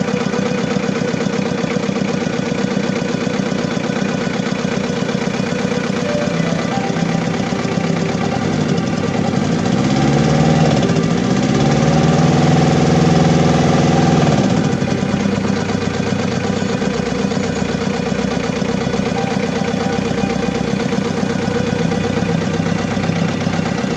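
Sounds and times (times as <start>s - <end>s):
diesel engine idling and revving: 0.0s - 23.9s.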